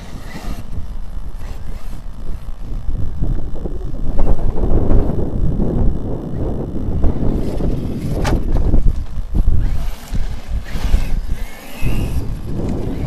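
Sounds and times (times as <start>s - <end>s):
rc truck electric motor whine: 0.0s - 13.0s
wind buffeting microphone: 0.0s - 13.0s.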